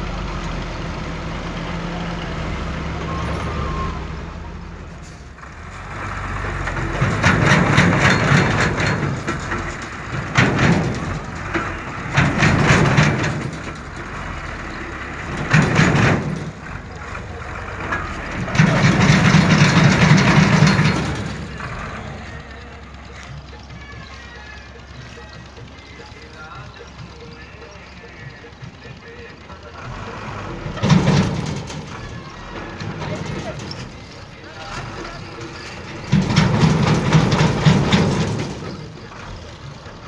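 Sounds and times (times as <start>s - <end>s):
diesel truck engine revving: 0.0s - 40.0s.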